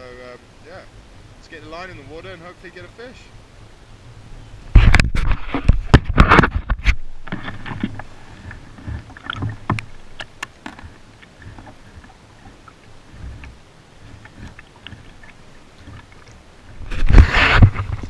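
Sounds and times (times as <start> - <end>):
faint low rumble: 0.0 - 18.0.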